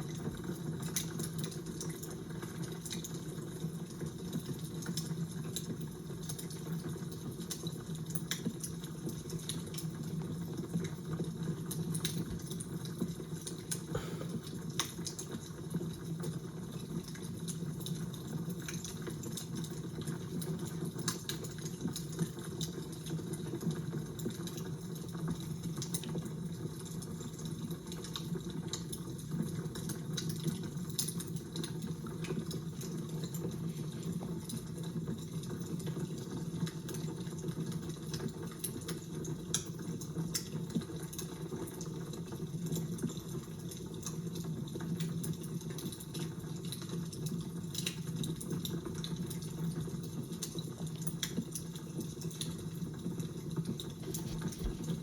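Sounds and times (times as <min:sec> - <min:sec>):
fire crackling: 0:00.1 - 0:55.0.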